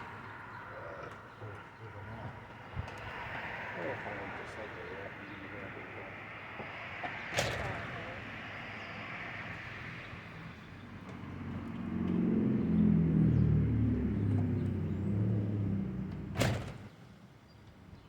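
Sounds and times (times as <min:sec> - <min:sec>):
car engine going by: 0:00.0 - 0:16.9.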